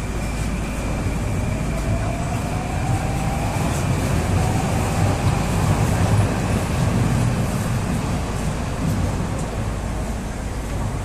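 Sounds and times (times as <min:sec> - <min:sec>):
metro car rumble and hum: 0:00.0 - 0:11.0.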